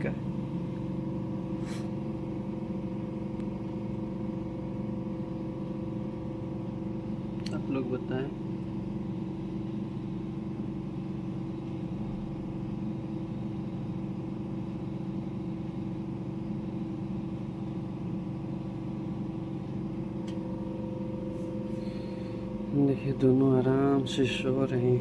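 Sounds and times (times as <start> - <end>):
medical equipment mechanical hum: 0.0 - 25.0.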